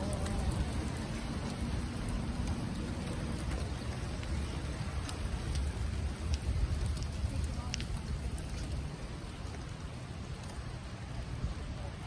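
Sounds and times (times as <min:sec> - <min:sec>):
low rumble: 0:00.0 - 0:12.0
raindrop ticks: 0:00.0 - 0:12.0
steady rain falling: 0:00.0 - 0:12.0.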